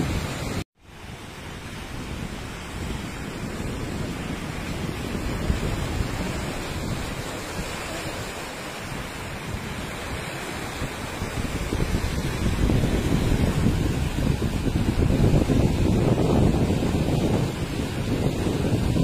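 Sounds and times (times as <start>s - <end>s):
floodwater rushing and churning: 0.0s - 19.0s.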